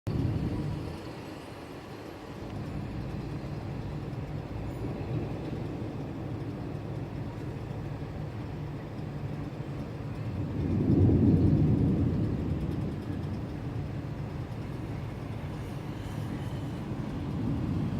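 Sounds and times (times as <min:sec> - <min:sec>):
rain rumble: 0:00.1 - 0:17.9
vehicle traffic: 0:00.1 - 0:17.9.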